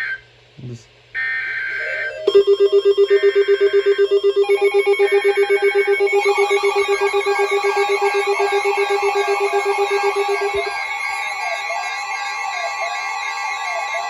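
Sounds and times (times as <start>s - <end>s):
rapid alarm beeps: 1.2s - 14.0s
digital data bursts: 1.7s - 14.0s
warbling tone: 1.7s - 14.0s.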